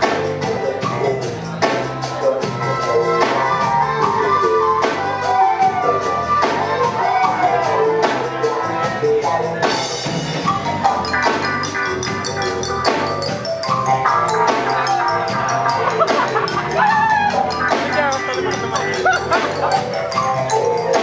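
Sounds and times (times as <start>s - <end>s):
reggae band playing: 0.0s - 21.0s.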